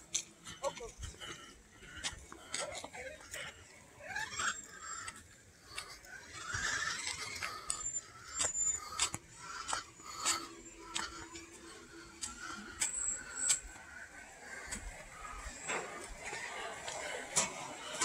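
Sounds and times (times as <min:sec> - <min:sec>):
footsteps on asphalt: 0:00.0 - 0:03.8, 0:04.4 - 0:18.0.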